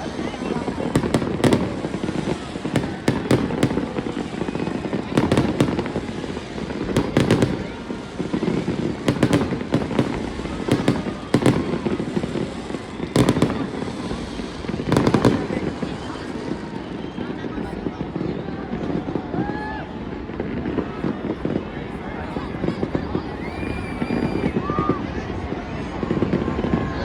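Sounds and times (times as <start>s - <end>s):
crowd murmur: 0.0s - 27.0s
fireworks bangs: 0.0s - 27.0s.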